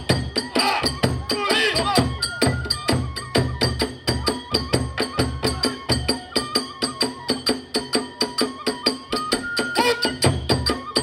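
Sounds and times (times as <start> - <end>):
bamboo flute high notes: 0.0 - 11.0
drum beats: 0.0 - 11.0.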